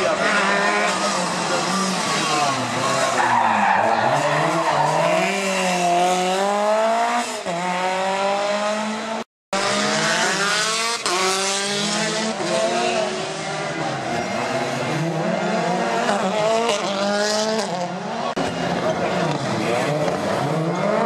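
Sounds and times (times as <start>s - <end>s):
rally car engines revving: 0.0s - 21.0s.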